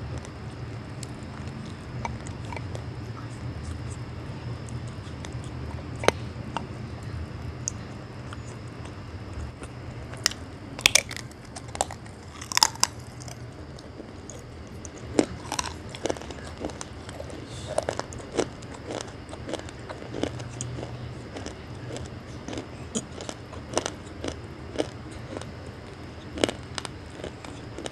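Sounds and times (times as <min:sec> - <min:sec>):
low steady hum: 0:00.0 - 0:27.9
person chewing crunchy food: 0:00.0 - 0:27.9.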